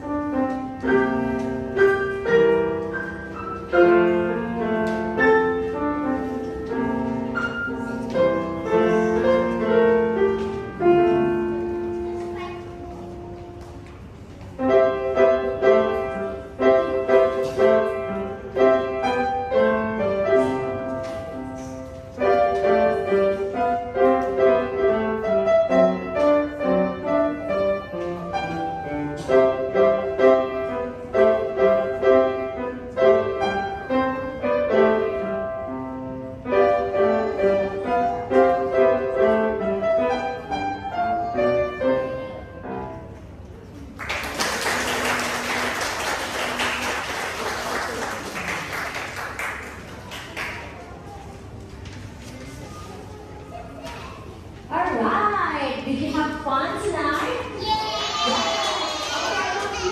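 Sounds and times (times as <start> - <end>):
grand piano duet: 0.0 - 59.9.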